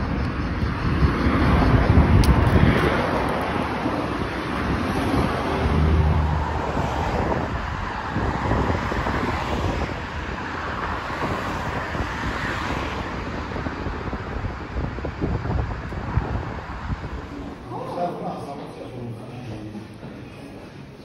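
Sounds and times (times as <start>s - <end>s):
wind buffeting the microphone: 0.0s - 20.0s
street traffic: 0.0s - 21.0s.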